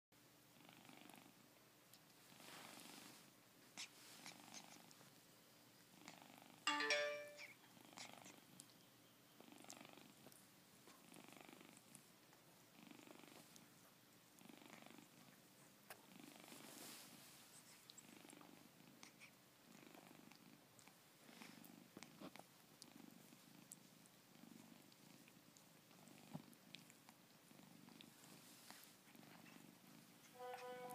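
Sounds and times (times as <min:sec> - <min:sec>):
cat purring: 0:00.4 - 0:06.6, 0:07.6 - 0:30.9.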